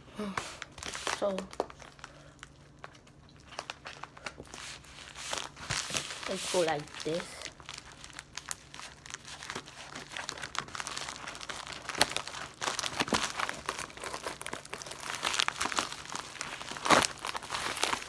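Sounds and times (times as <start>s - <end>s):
plastic bag crinkling: 0.3s - 18.0s.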